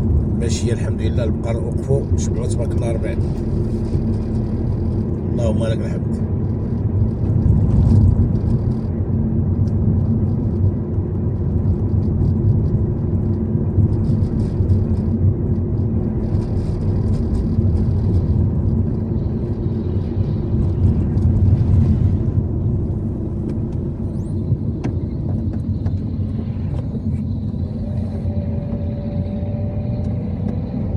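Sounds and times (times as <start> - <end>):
car engine driving: 0.0 - 30.9
road noise: 0.0 - 30.9.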